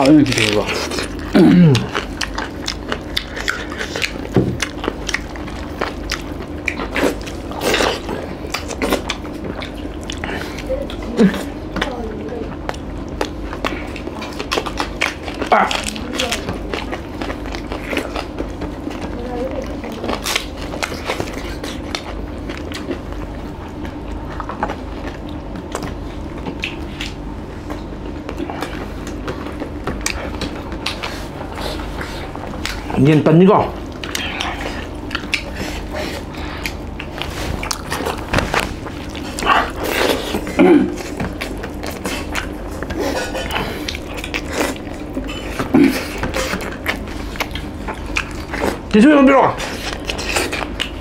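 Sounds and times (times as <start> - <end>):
chewing and wet mouth sounds: 0.0 - 51.0
steady low hum: 0.0 - 51.0.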